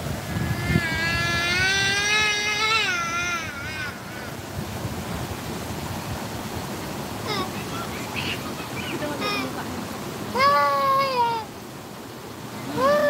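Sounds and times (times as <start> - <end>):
river water running over rocks: 0.0 - 13.0.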